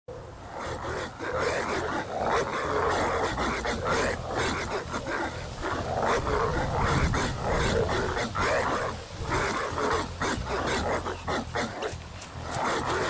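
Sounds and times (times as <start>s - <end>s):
dogs barking: 0.1s - 13.0s.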